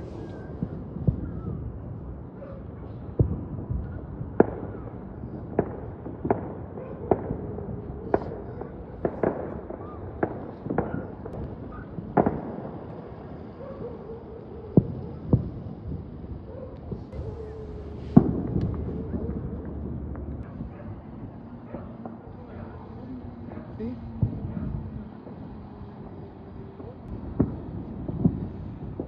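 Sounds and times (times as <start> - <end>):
fireworks popping and banging: 2.8 - 29.0.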